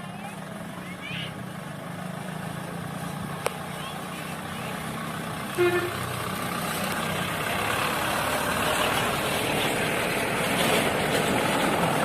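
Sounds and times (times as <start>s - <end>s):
heavy truck engines rumbling: 0.0s - 12.0s
road traffic noise: 0.0s - 12.0s.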